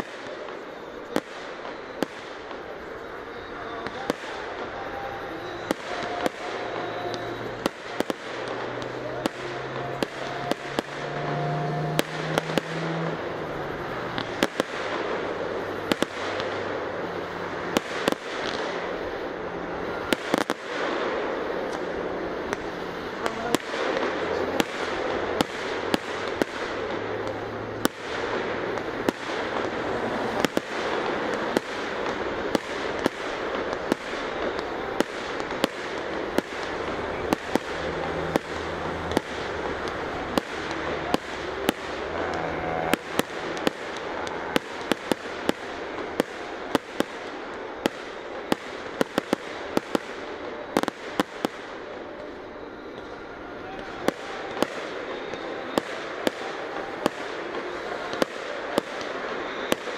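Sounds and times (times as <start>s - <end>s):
fireworks shells bursting: 0.0s - 51.9s
steady background noise: 0.0s - 59.9s.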